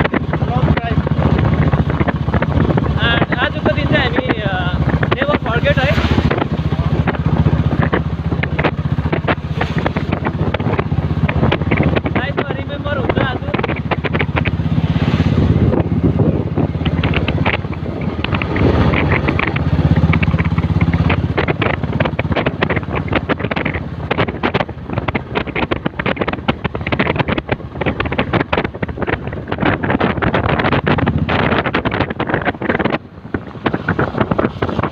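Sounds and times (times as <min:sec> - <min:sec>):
motorcycle engine humming: 0:00.0 - 0:34.9
wind buffeting microphone: 0:00.0 - 0:34.9.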